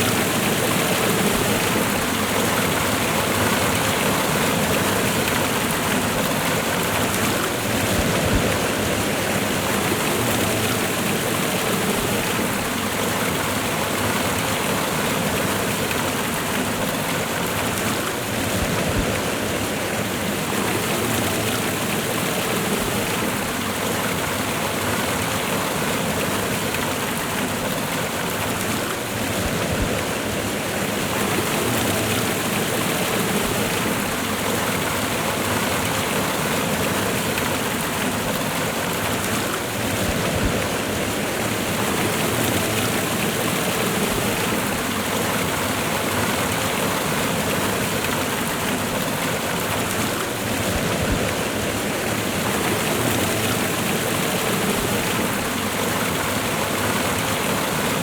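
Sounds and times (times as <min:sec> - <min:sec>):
waterfall and river rushing: 0:00.0 - 0:58.0.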